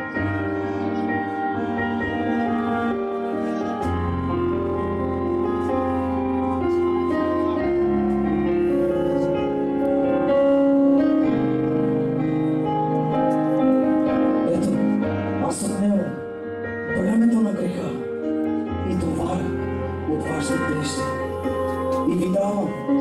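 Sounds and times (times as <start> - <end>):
electronic keyboard chords: 0.0 - 23.0.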